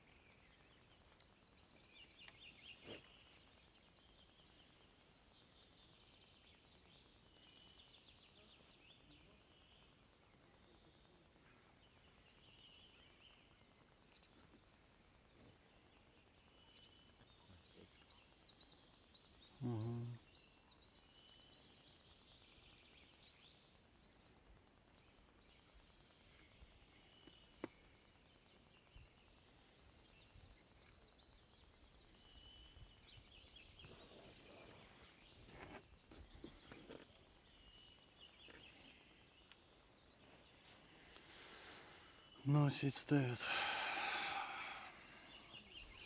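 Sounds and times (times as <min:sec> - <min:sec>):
songbirds trilling and chirping: 0:00.0 - 0:46.0.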